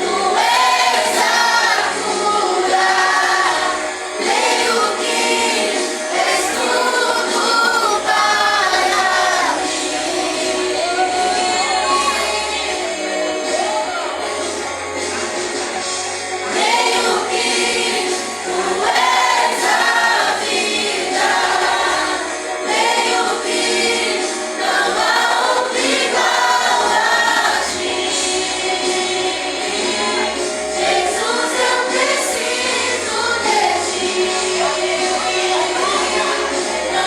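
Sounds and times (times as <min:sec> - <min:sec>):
group singing gospel song: 0:00.0 - 0:37.0
musical accompaniment: 0:00.0 - 0:37.0.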